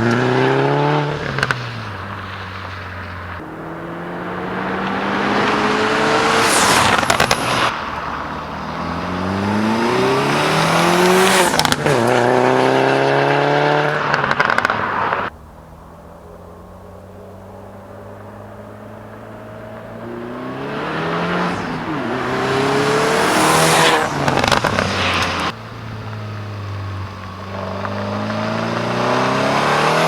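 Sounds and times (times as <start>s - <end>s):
car engine accelerating hard: 0.0s - 30.0s.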